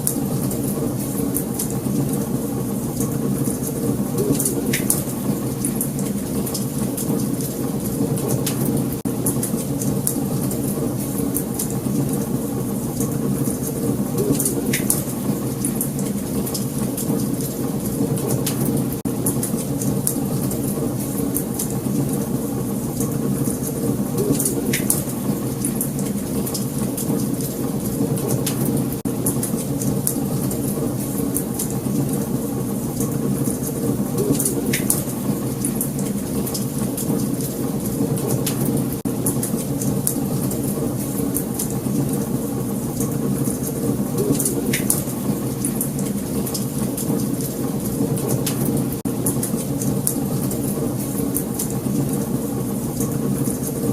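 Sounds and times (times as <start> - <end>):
wood fire burning and crackling: 0.0 - 53.9.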